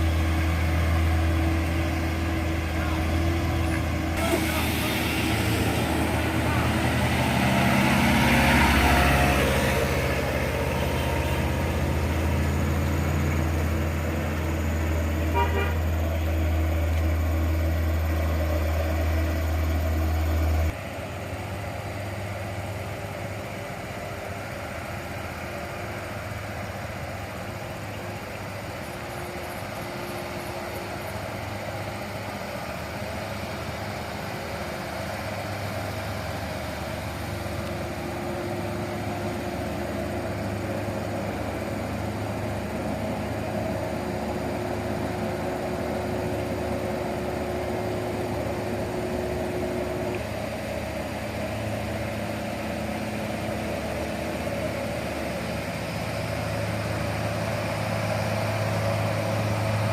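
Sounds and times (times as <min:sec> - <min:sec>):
diesel truck engine running: 0:00.0 - 0:59.9
quieter engine sound: 0:00.0 - 0:59.9.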